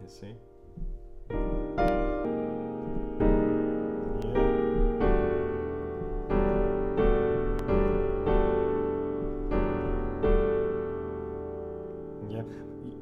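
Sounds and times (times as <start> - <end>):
piano playing sustained chords: 0.0 - 13.0.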